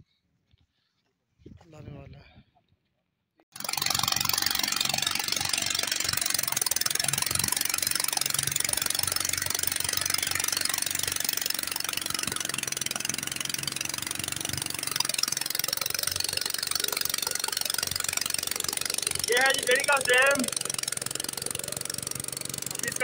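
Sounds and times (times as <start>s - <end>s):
outboard motor running: 3.5s - 23.0s.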